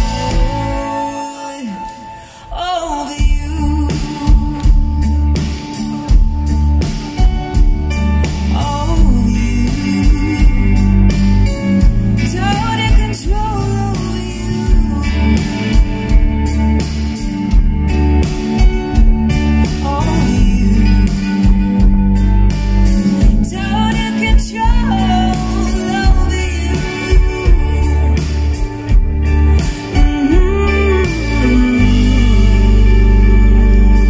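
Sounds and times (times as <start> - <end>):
drums: 0.0 - 34.0
electric guitar: 0.0 - 34.0
woman singing lead: 0.0 - 34.0.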